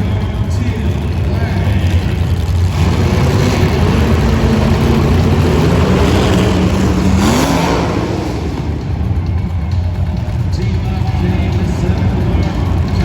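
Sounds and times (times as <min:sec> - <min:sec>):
car engine revving: 0:00.0 - 0:13.0
loud car engines running: 0:00.0 - 0:13.0.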